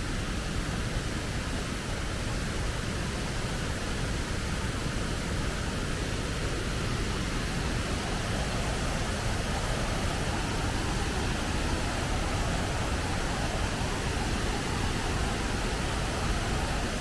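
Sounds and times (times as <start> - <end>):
waterfall roaring: 0.1 - 17.0.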